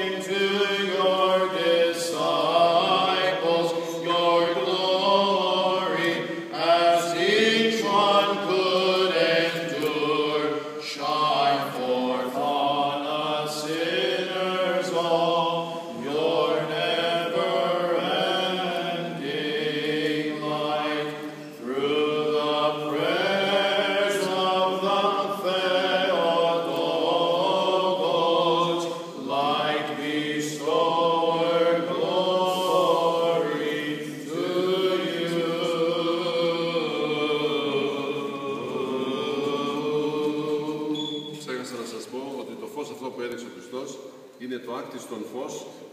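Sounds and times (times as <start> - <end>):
voices chanting a slow hymn: 0.0 - 45.9.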